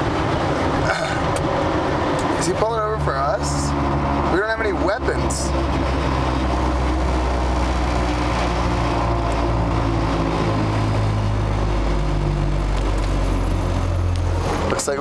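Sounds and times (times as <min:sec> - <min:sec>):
road and tyre noise: 0:00.0 - 0:15.0
truck engine hum: 0:00.0 - 0:15.0.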